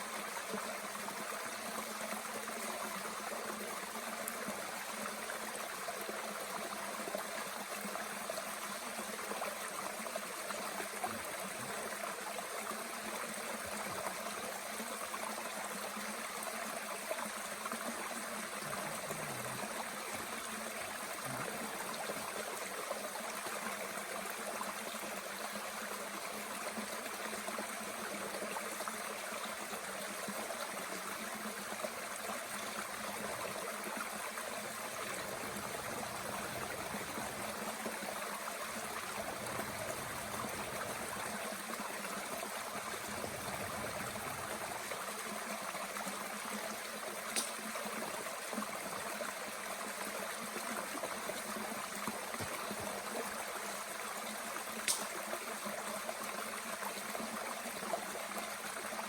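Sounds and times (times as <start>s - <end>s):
mountain stream running: 0.0s - 59.0s.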